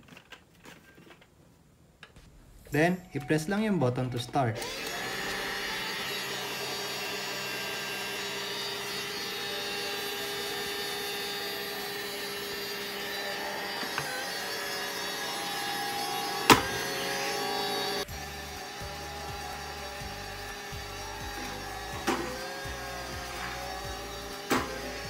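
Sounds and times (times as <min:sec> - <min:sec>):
robot vacuum cleaner whine: 0:04.6 - 0:25.0.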